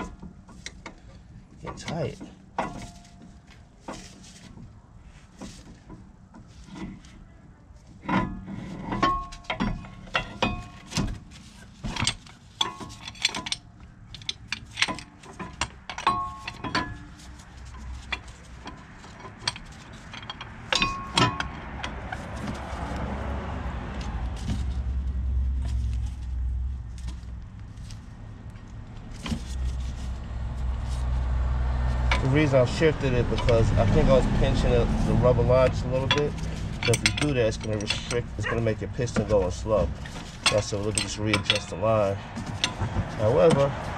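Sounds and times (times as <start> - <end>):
metal tools clinking on brake caliper: 0.0 - 7.2, 7.9 - 23.3, 29.1 - 43.9.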